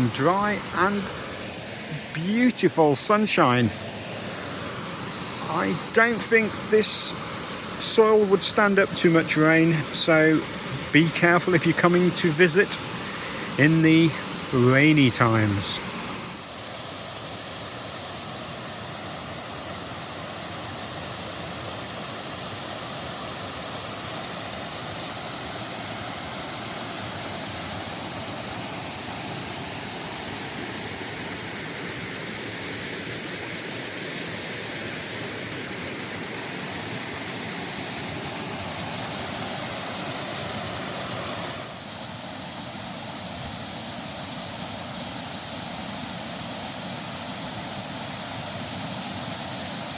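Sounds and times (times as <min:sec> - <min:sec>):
small waterfall rushing: 0:00.0 - 0:49.9.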